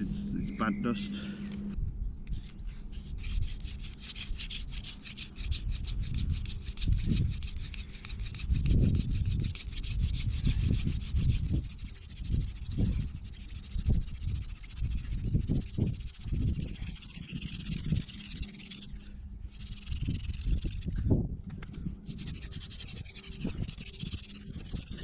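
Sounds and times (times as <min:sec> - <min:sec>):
wooden spindle rasping: 0:02.3 - 0:21.1, 0:22.0 - 0:25.0.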